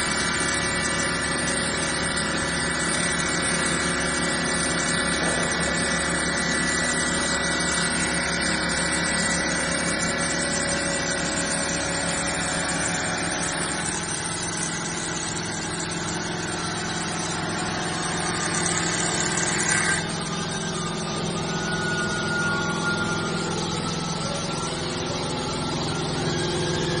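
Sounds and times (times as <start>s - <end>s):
saw blade grinding stone: 0.0s - 27.0s
saw motor hum: 0.0s - 27.0s.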